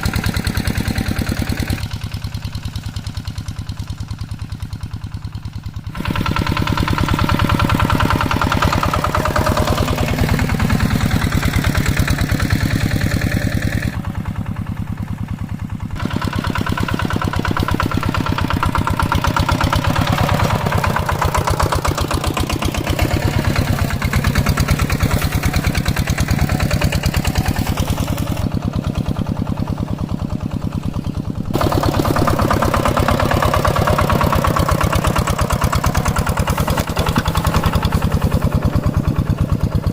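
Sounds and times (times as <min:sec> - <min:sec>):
tractor engine thudding: 0:00.0 - 0:39.9.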